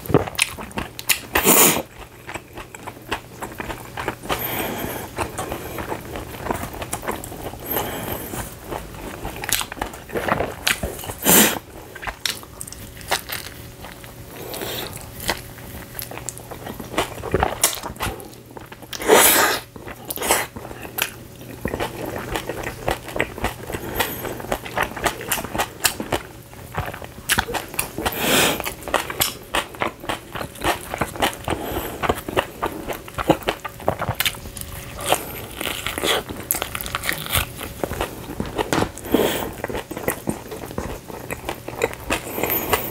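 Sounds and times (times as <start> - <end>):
chewing and biting pizza: 0.0 - 42.9.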